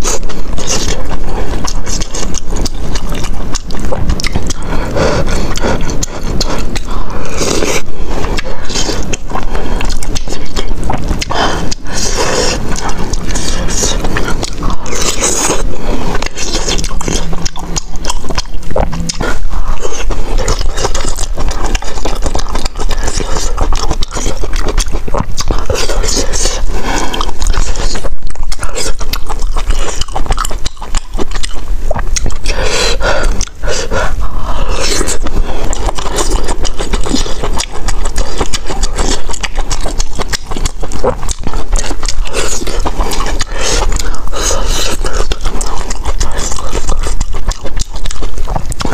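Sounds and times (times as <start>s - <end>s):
slurping and chewing noodles: 0.0s - 48.9s.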